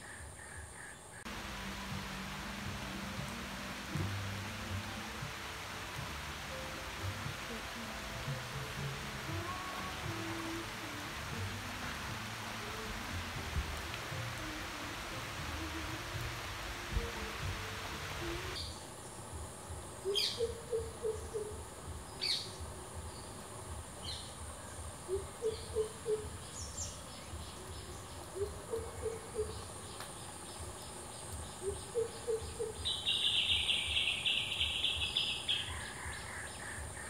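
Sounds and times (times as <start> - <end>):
steady high insect whine: 0.0 - 37.0.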